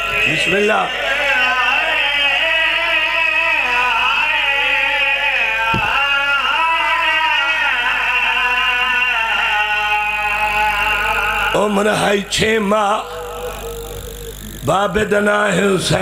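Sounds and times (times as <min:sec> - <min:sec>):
man singing lament through microphone: 0:00.0 - 0:16.0.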